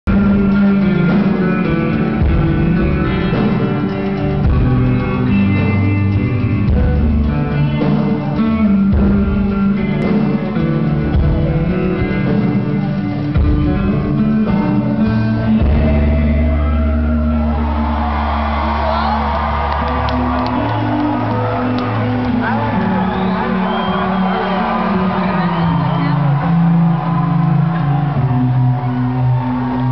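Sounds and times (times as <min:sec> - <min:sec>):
live rock band playing: 0:00.1 - 0:29.9.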